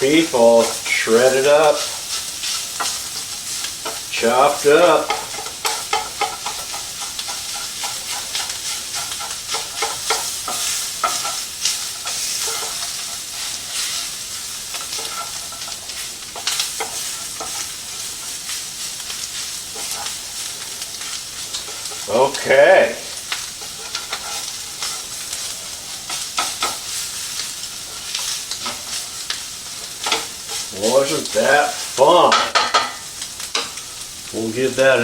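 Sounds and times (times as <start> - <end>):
utensil tapping and scraping pan: 0.0 - 33.8
meat sizzling in a pan: 0.0 - 35.0.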